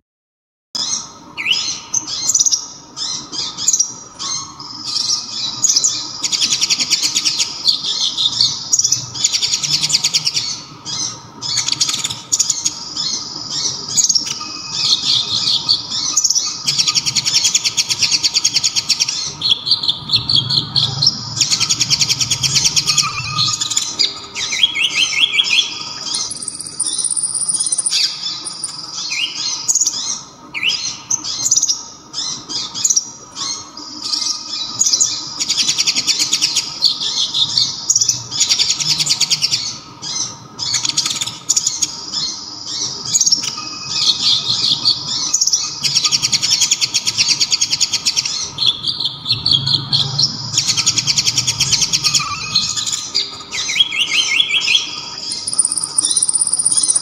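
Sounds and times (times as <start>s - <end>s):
bird singing rapid trills: 0.8s - 57.0s.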